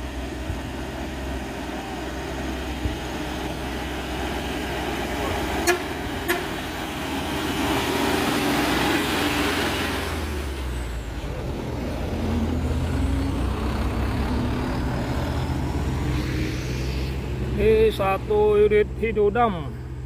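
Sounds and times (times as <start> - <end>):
diesel truck passing: 0.0 - 20.0.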